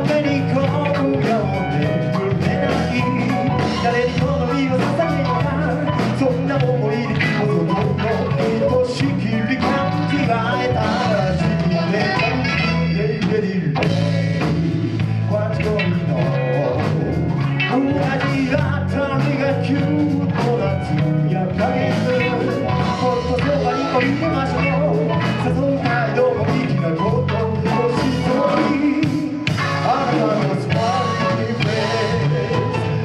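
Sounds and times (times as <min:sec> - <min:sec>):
live rock band playing: 0:00.0 - 0:33.0
person singing: 0:00.0 - 0:33.0.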